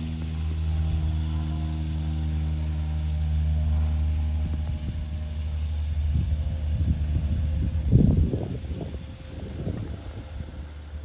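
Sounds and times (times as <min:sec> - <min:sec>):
low crackling: 0:00.0 - 0:11.0
toy train motor humming: 0:00.0 - 0:11.0.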